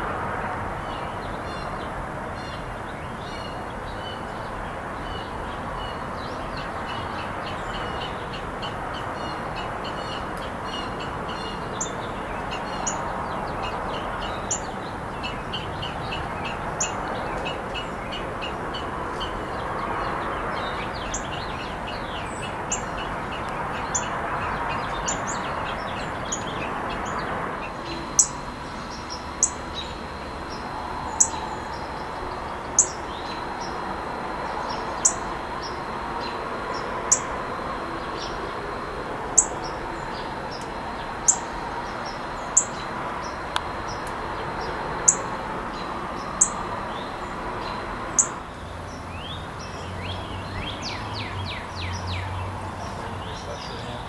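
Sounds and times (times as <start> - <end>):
small birds twittering: 0.7 - 54.0.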